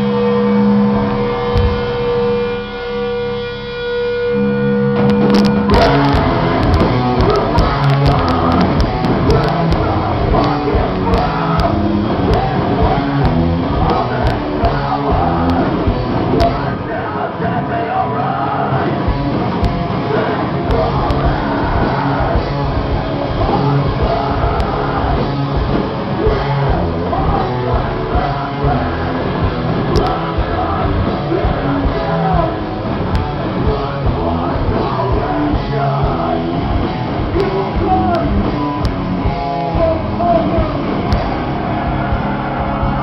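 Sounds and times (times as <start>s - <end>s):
rock band playing live: 0.0s - 43.0s.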